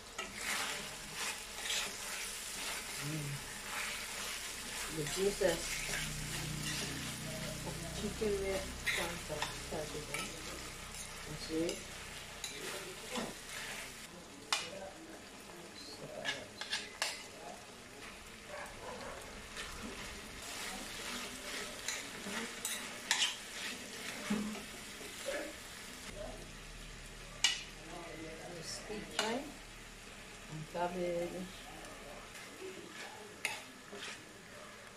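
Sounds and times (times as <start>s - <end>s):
food sizzling in a frying pan: 0.0s - 34.9s.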